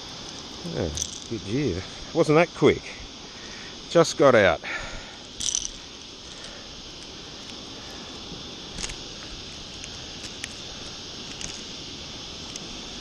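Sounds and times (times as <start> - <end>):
sea hissing: 0.0 - 13.0
wind: 0.0 - 13.0.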